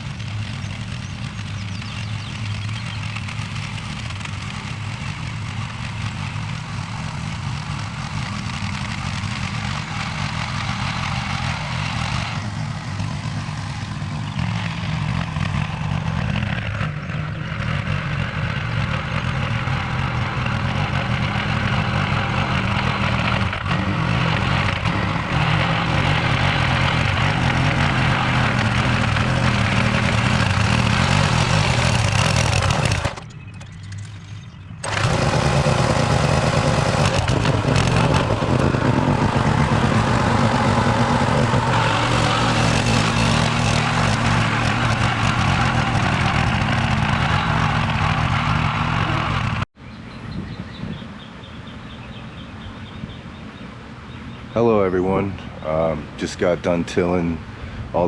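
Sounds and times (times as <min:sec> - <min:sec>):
tiller engine running: 0:00.0 - 0:49.7.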